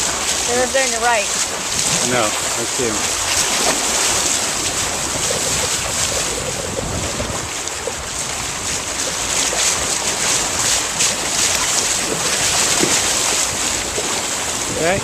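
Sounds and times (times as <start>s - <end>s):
sea water rushing along hull: 0.0s - 15.0s
wind buffeting microphone: 0.0s - 15.0s.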